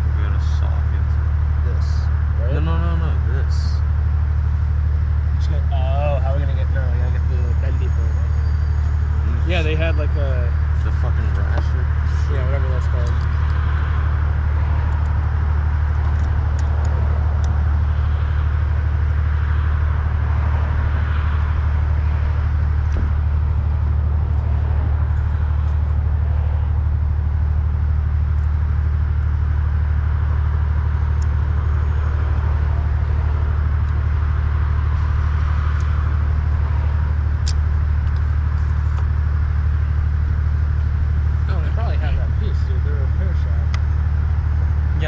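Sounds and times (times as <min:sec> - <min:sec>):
low droning hum: 0:00.0 - 0:45.0.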